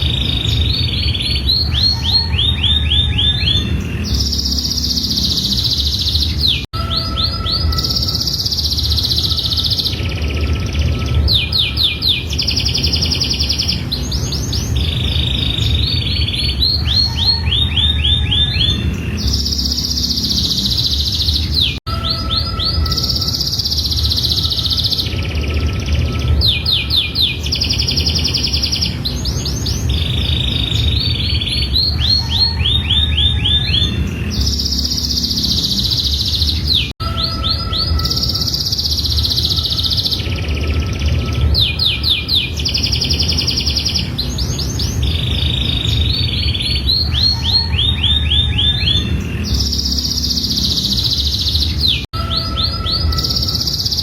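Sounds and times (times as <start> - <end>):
steady low hum: 0.0 - 36.9, 37.9 - 52.1
canary singing: 0.0 - 54.0.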